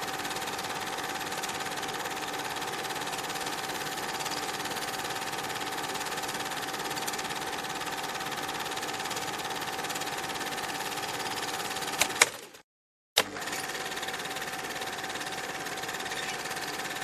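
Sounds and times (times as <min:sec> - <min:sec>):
film projector clattering: 0:00.0 - 0:12.6, 0:13.2 - 0:17.0.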